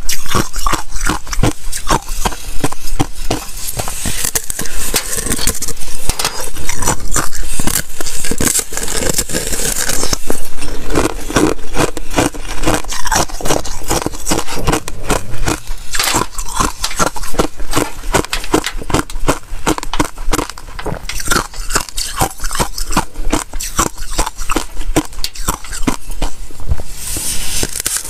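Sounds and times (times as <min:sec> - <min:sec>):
ice being chewed and crunching: 0:00.0 - 0:28.0.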